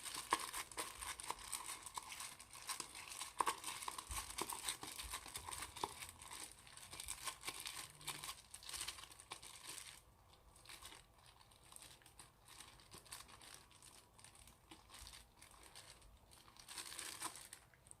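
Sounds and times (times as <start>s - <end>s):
slime crinkling and popping: 0.0s - 18.0s.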